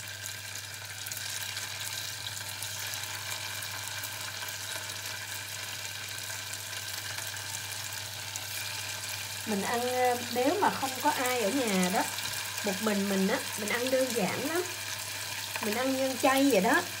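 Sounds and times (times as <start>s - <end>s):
tofu sizzling in hot oil: 0.0s - 17.0s.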